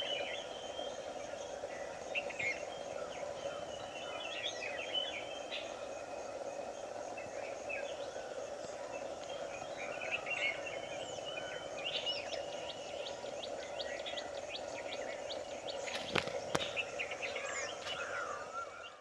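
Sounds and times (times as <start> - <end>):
birds chirping and calling: 0.0 - 19.0
steady hum: 0.0 - 19.0.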